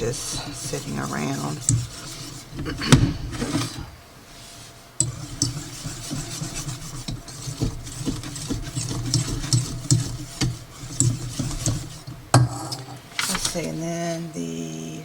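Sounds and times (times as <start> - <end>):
spoon scraping frosting in bowl: 0.0 - 13.9.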